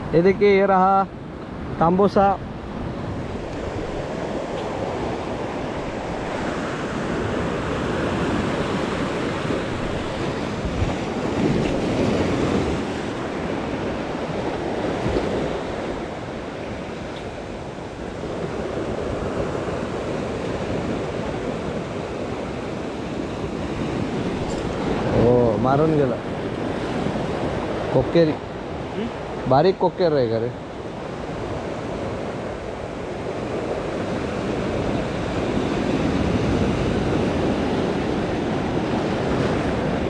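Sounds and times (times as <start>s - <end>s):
waves breaking over rocks: 2.5s - 40.0s.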